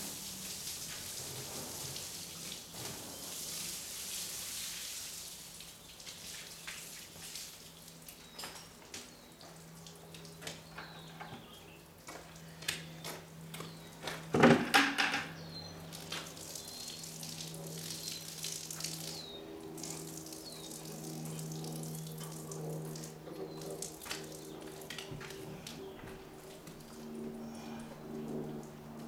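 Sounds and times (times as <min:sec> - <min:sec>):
water dripping: 0:00.0 - 0:10.9, 0:15.8 - 0:25.8, 0:26.4 - 0:29.0.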